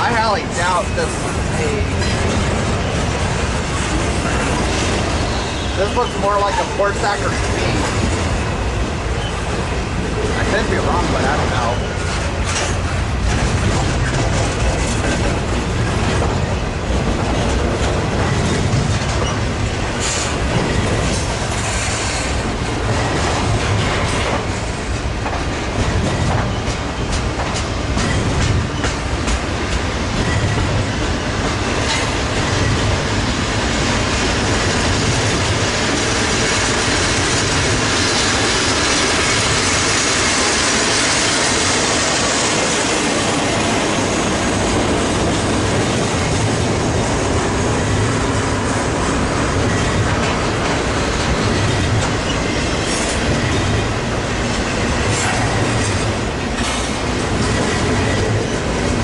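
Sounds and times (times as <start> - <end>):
freight train wheel and rail noise: 0.0 - 59.0.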